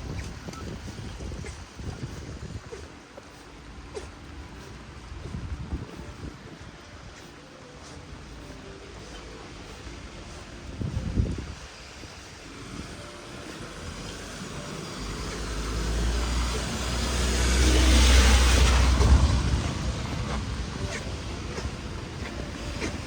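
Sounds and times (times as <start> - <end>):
steady rain: 0.0 - 23.0
vehicle passing on wet street: 3.3 - 23.0.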